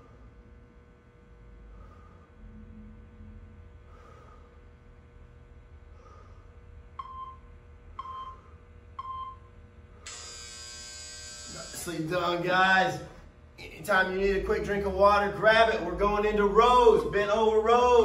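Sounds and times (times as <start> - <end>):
loud steady buzzer: 0.0 - 18.0
low steady hum: 0.0 - 18.0.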